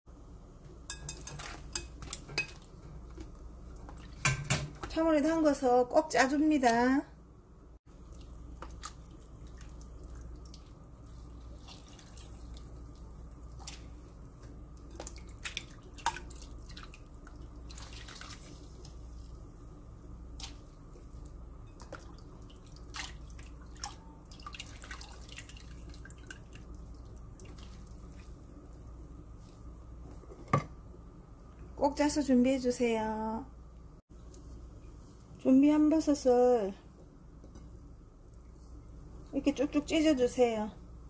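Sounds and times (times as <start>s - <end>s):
low steady hum: 0.1s - 41.0s.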